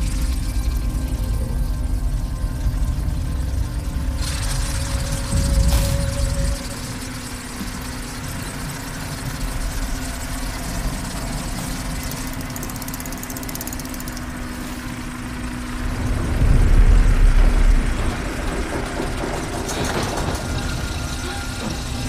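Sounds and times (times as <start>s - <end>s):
low rumbling drone: 0.0s - 22.0s
steady hum: 0.0s - 22.0s.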